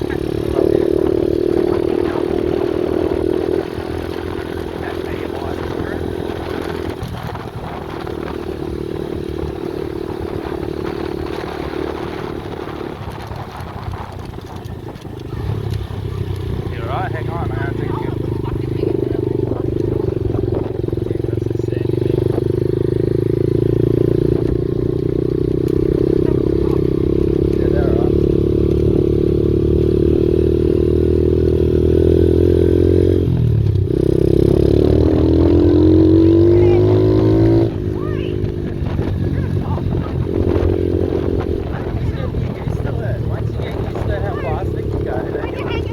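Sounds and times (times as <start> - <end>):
pit bike engine running: 0.0 - 45.9.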